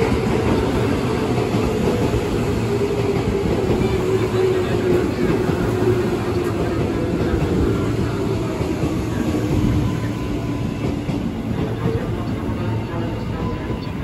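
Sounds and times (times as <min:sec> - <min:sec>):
train wheels clattering on rail: 0:00.0 - 0:14.0.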